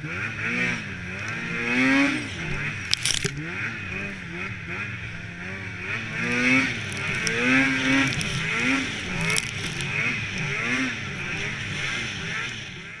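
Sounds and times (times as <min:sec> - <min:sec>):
snowmobile engine revving: 0:00.0 - 0:13.0
track and wind noise: 0:00.0 - 0:13.0.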